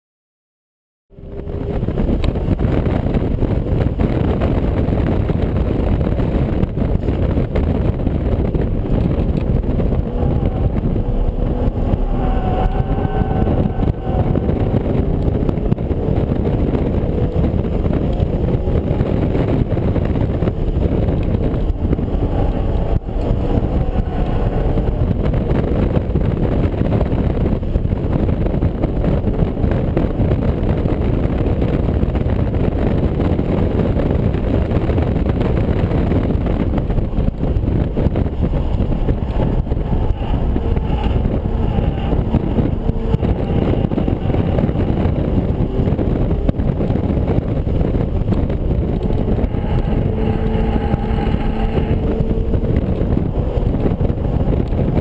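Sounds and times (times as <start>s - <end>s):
car engine revving: 1.1s - 55.0s
road and wind noise: 1.1s - 55.0s.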